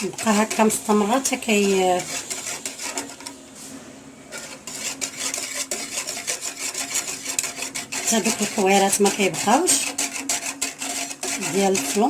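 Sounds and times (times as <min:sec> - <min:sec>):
whisk clicking against a pot: 0:00.0 - 0:03.4, 0:04.3 - 0:12.0.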